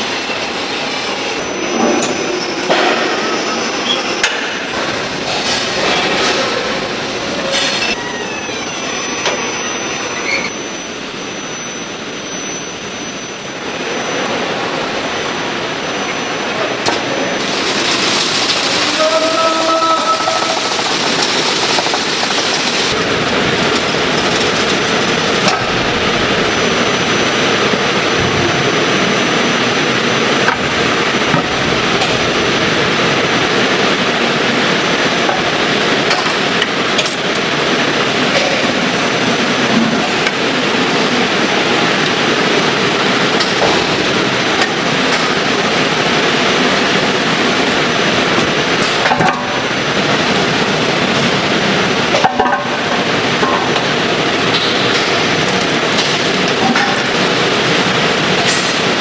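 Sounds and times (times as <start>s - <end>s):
machinery clattering: 0.0s - 10.6s, 16.8s - 59.0s.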